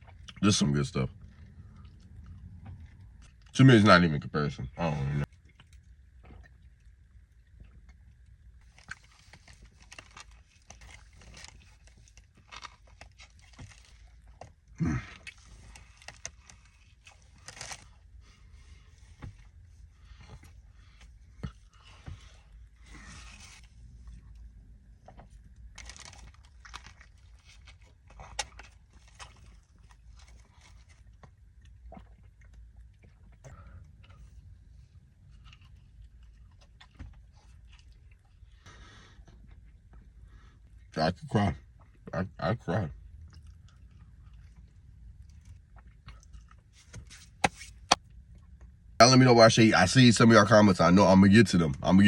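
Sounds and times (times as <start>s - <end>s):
person chewing food: 0.0s - 0.4s, 1.1s - 3.5s, 5.2s - 40.9s, 43.0s - 48.8s.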